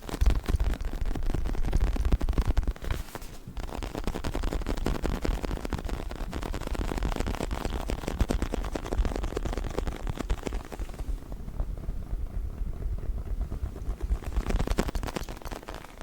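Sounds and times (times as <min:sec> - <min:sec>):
fingers scratching fake leather: 0:00.0 - 0:16.0.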